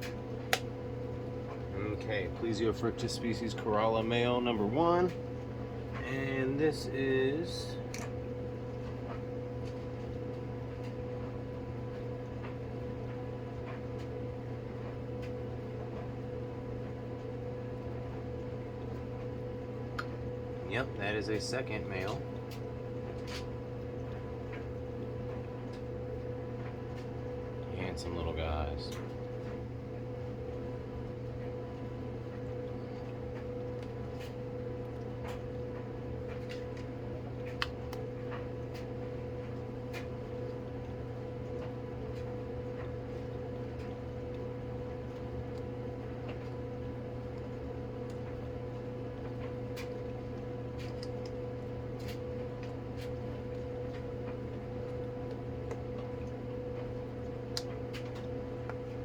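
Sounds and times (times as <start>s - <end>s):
mechanical room hum: 0.0s - 59.0s.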